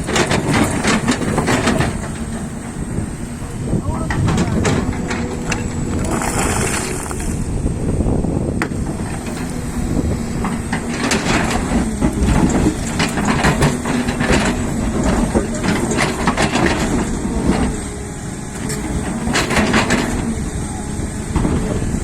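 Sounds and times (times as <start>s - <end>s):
rock scraping excavator bucket: 0.0s - 18.0s, 18.6s - 20.5s
excavator diesel engine: 0.0s - 22.0s.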